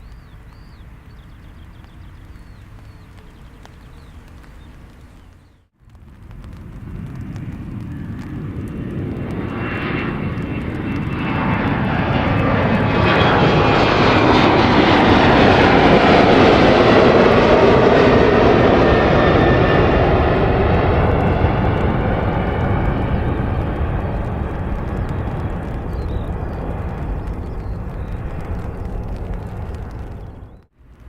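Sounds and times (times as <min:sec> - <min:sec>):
airliner engines whining: 0:00.0 - 0:30.7.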